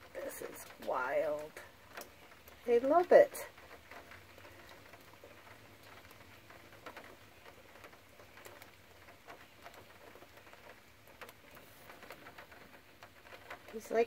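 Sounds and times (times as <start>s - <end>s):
raindrops ticking: 0.0s - 14.0s.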